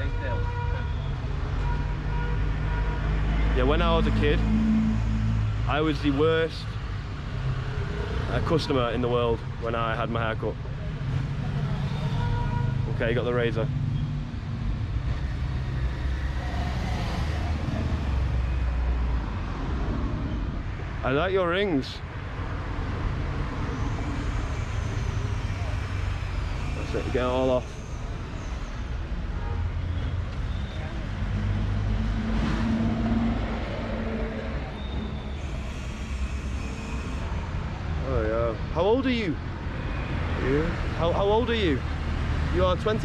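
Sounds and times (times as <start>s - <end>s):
street traffic noise: 0.0s - 43.0s.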